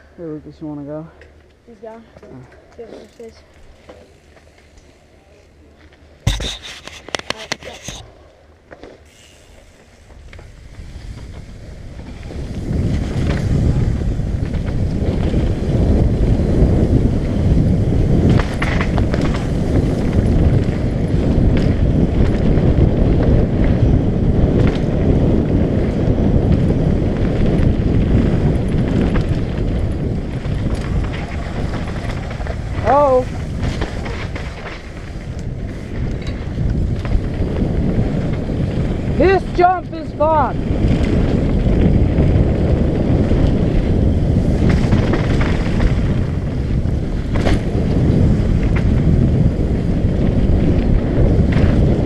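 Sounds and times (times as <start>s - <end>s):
tyres rumbling on dirt trail: 0.0s - 52.0s
wind buffeting microphone: 0.0s - 52.0s
bike clacking and rattling: 1.2s - 52.0s.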